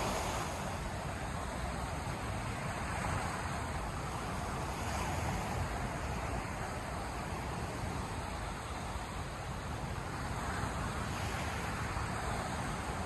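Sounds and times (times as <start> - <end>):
waves rushing: 0.0 - 13.0
wind rumble on microphone: 0.0 - 13.0.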